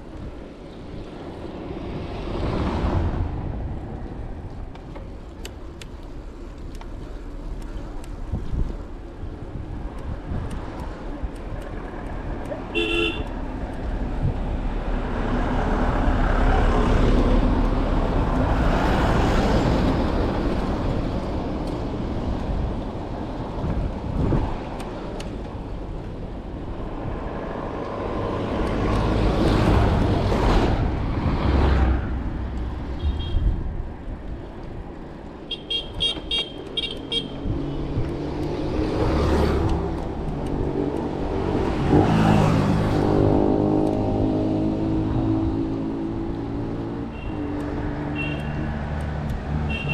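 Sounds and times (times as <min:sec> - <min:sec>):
vehicles passing: 0:00.0 - 0:49.9.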